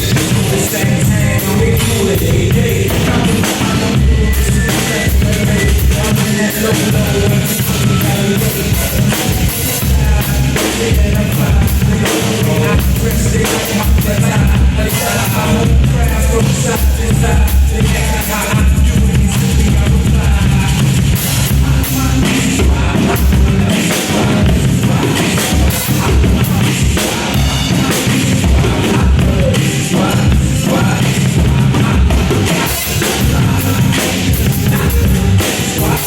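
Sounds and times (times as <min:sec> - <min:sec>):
drum kit playing: 0:00.0 - 0:36.0
rock song with singing: 0:00.0 - 0:36.0.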